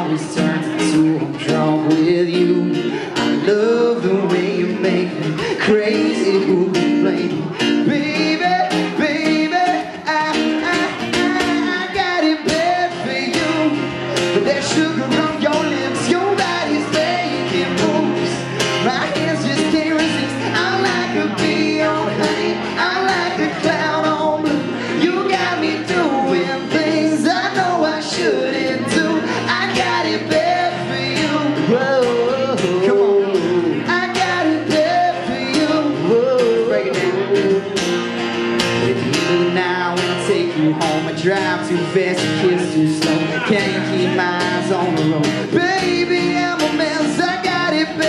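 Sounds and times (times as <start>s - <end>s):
men singing: 0.0s - 38.0s, 38.8s - 48.0s
strummed acoustic guitar: 0.0s - 48.0s.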